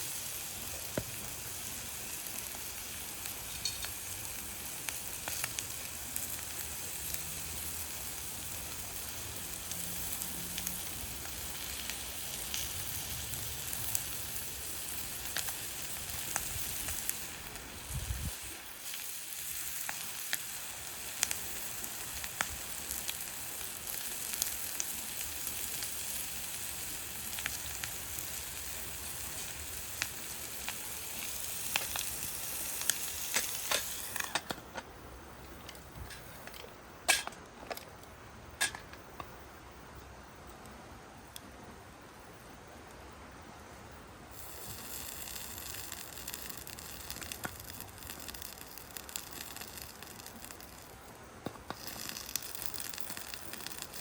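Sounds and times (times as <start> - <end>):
food sizzling in a pan: 0.0 - 34.4, 44.3 - 51.0, 51.6 - 54.0.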